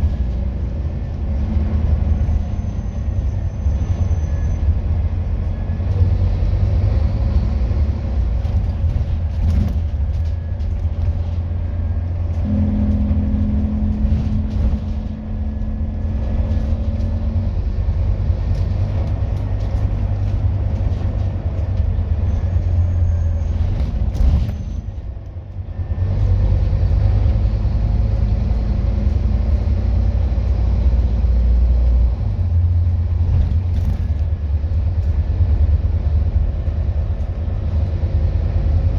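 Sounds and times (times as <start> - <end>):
bus diesel engine rumbling: 0.0 - 38.9.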